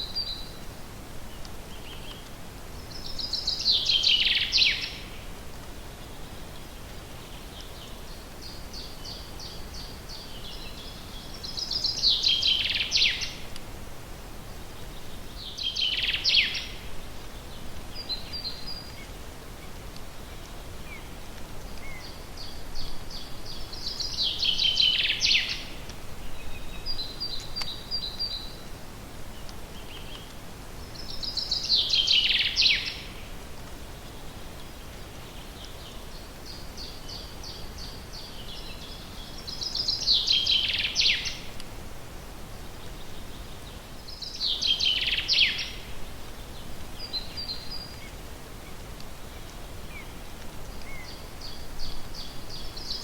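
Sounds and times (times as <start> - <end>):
songbird singing: 0.0 - 13.7, 14.3 - 53.0
faint background hiss: 0.0 - 53.0.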